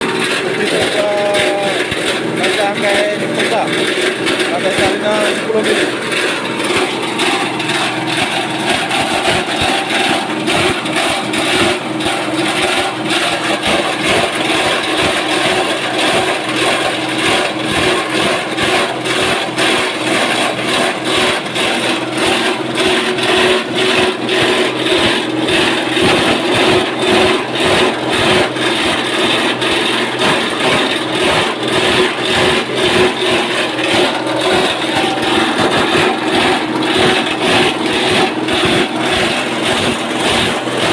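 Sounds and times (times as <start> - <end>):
machine hum: 0.0 - 40.9
shredder rattling: 0.0 - 40.9.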